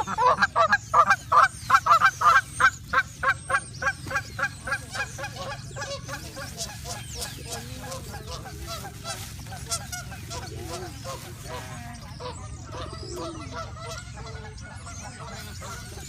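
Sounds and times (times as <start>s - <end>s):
flock of birds calling: 0.0s - 16.0s.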